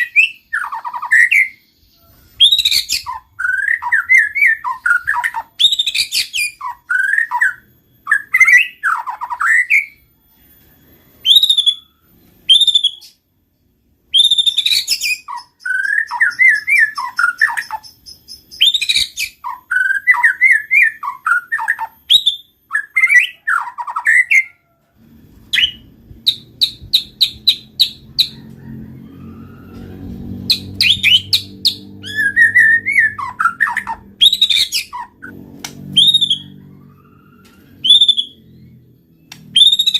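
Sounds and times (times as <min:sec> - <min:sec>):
bird singing whistled phrases: 0:00.0 - 0:10.0, 0:11.2 - 0:13.2, 0:14.1 - 0:24.6, 0:25.5 - 0:28.3, 0:30.5 - 0:35.3, 0:35.9 - 0:36.6, 0:37.8 - 0:39.9
high bird trill: 0:00.0 - 0:24.8, 0:25.4 - 0:39.9.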